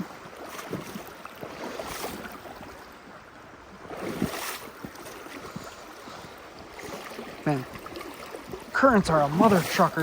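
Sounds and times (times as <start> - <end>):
creek water rushing: 0.0 - 10.0
splashes of wading: 0.0 - 10.0.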